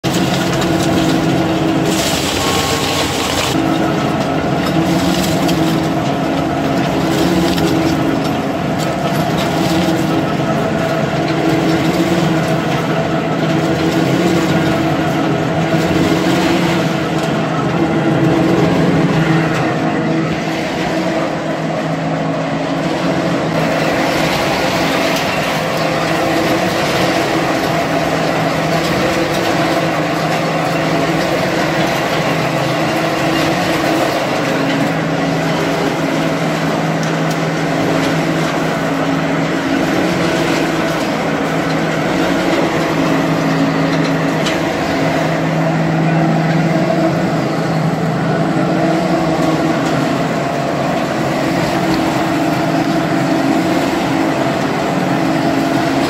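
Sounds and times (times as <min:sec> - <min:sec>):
shredder motor drone: 0:00.0 - 0:56.0.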